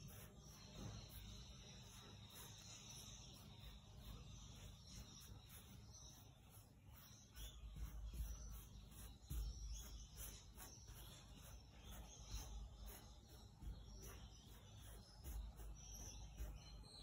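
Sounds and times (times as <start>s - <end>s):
paintbrush rasping on canvas: 0.0s - 17.0s.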